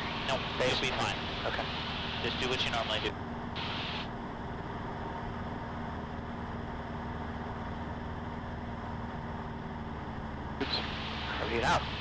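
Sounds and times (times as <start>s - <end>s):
light aircraft engine and propeller: 0.0s - 12.0s.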